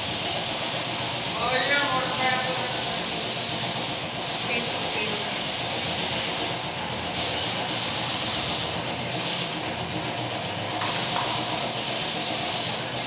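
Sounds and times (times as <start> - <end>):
paint spray gun hissing: 0.0 - 9.6, 10.8 - 13.0.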